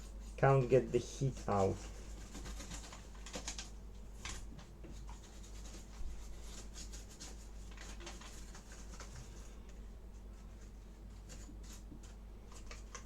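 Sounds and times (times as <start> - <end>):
bristle brush scrubbing: 0.0 - 3.5, 4.4 - 12.9.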